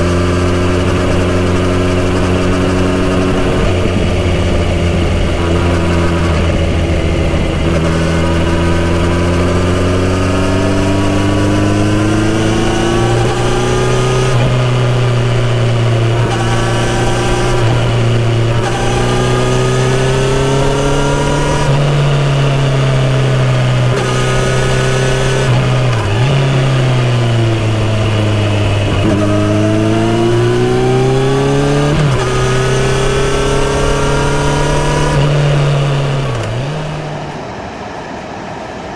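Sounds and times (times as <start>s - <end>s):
motorcycle engine accelerating: 0.0s - 38.4s.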